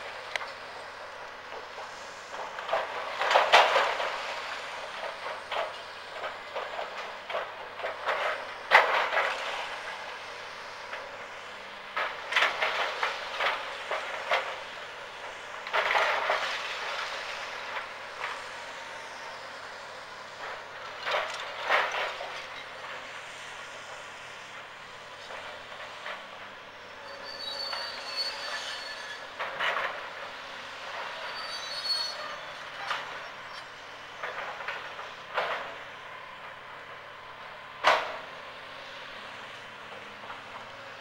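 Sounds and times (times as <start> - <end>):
faint low excavator engine hum: 0.0 - 41.0.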